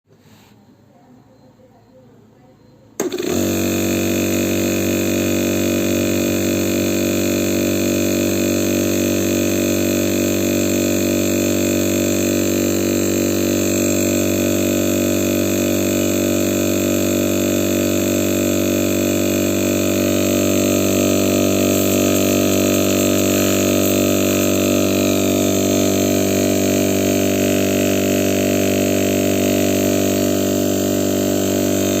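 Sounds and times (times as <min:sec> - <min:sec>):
refrigerator compressor humming: 0:03.0 - 0:32.0.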